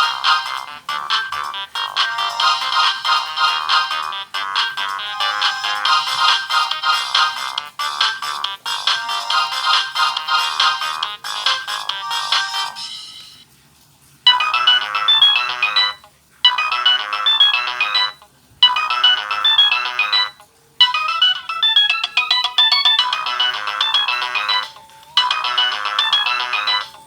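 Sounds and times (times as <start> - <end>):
phone ringtone melody: 0.0 - 13.4, 14.3 - 27.0.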